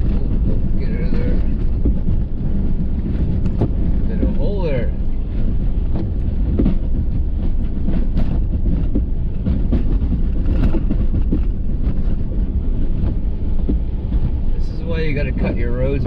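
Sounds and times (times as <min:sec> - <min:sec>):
knocks and rattles: 0:00.0 - 0:16.0
pickup truck engine and road rumble: 0:00.0 - 0:16.0.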